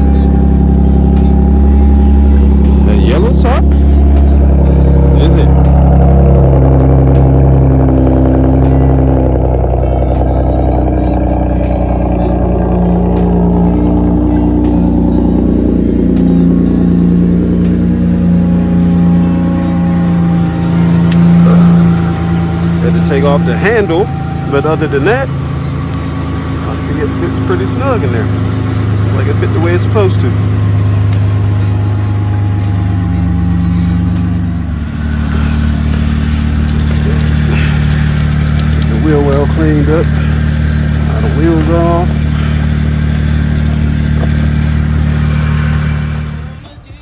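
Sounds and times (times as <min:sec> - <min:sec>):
car engine running: 0:00.0 - 0:47.0.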